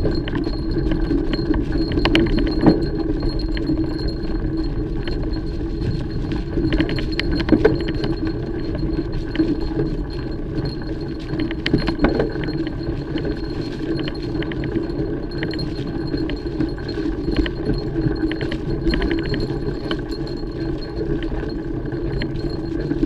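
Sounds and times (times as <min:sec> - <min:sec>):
bike rattling and clinking: 0:00.0 - 0:23.0
bike tyres rolling on trail: 0:00.0 - 0:23.0.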